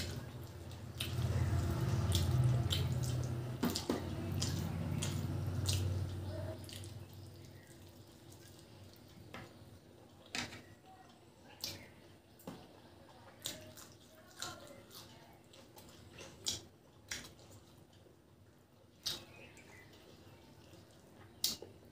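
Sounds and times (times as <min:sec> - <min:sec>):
chewing and lip smacks: 0:00.0 - 0:10.3, 0:11.1 - 0:21.9
sharp wet clicks: 0:00.0 - 0:12.5, 0:13.3 - 0:18.1, 0:18.9 - 0:21.9.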